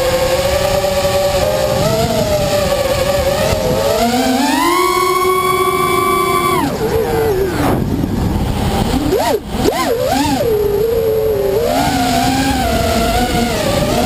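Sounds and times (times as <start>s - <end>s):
drone motors and propellers whining: 0.0s - 14.0s
rush of air noise: 0.0s - 14.0s.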